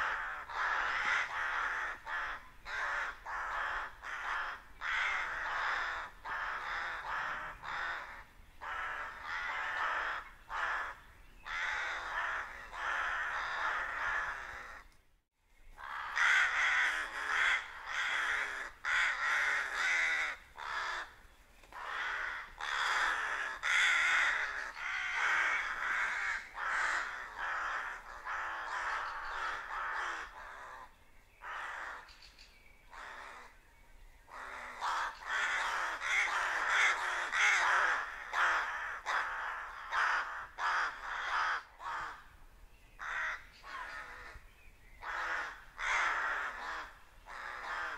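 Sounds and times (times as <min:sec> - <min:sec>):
rooks cawing: 0:00.0 - 0:14.9, 0:15.8 - 0:32.1, 0:32.9 - 0:33.6, 0:34.3 - 0:42.4, 0:43.0 - 0:44.4, 0:45.0 - 0:47.9.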